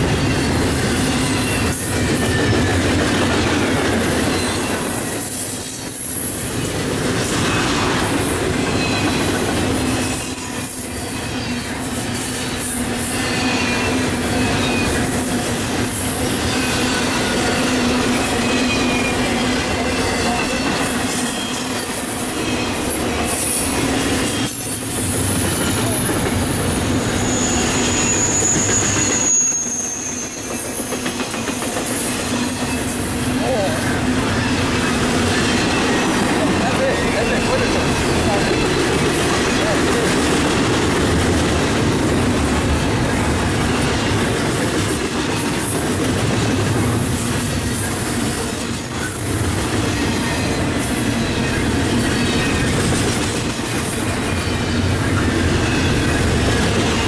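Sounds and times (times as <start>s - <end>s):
high wheel squeals: 0.0s - 2.9s, 3.5s - 40.1s, 42.4s - 57.0s
train wheels rumbling on rails: 0.0s - 57.0s.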